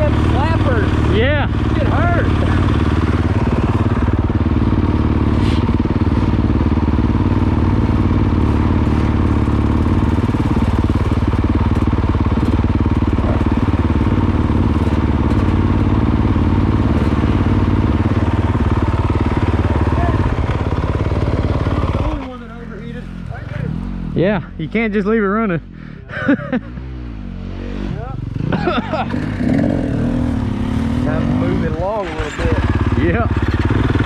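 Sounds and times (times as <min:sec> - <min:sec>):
motorcycle engine running steadily: 0:00.0 - 0:34.0.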